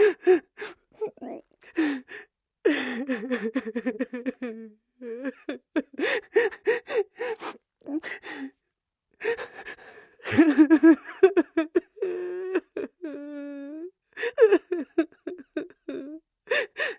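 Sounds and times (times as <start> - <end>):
man sobbing and gasping: 0.0 - 1.0, 1.7 - 8.5, 9.2 - 16.9.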